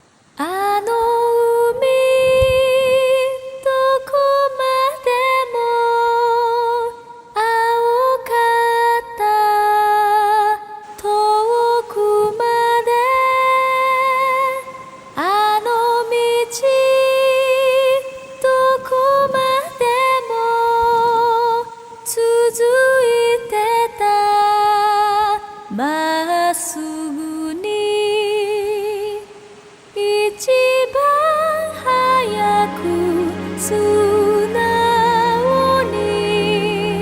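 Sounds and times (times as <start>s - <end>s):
woman singing with vibrato: 0.4s - 37.0s.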